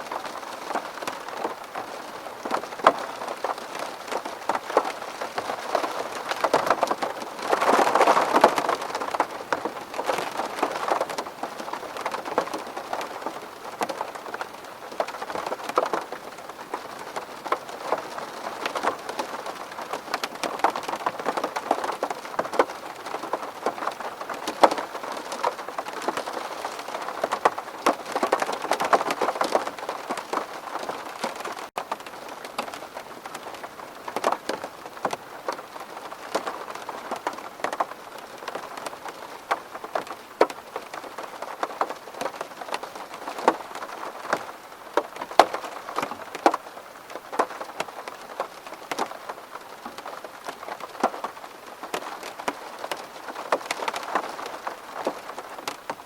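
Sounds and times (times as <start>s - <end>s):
rain pattering on window glass: 0.0s - 56.0s.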